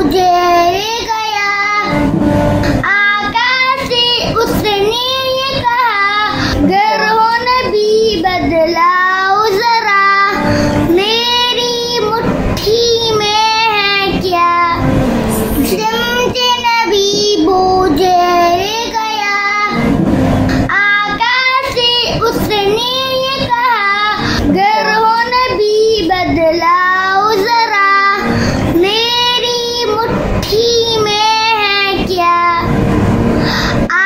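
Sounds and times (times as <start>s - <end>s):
boy singing devotional song: 0.0s - 20.0s, 20.6s - 32.8s, 33.4s - 34.0s.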